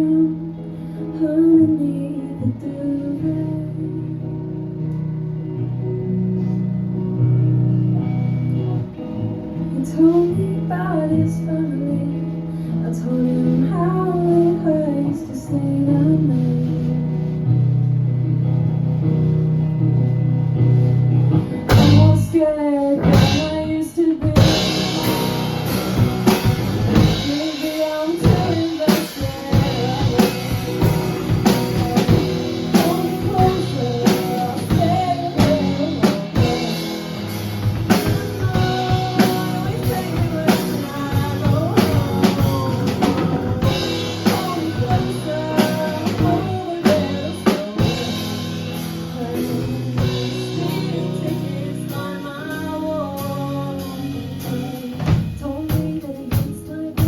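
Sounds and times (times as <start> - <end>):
song with drums guitar and vocals: 0.0 - 57.0.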